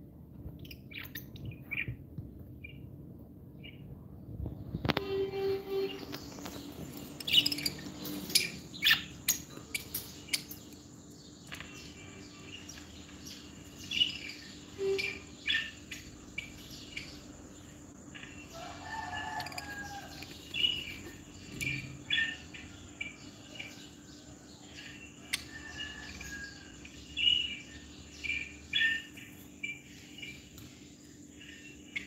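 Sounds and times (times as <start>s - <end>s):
lovebirds chirping: 0.4s - 32.0s.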